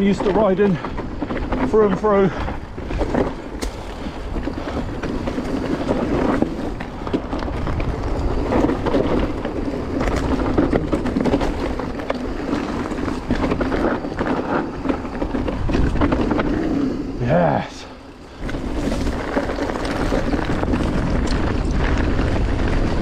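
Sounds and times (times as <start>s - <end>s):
bike rattles and knocks: 0.0s - 23.0s
bike tyres rolling over stones: 0.0s - 23.0s
wind noise on microphone: 0.0s - 23.0s.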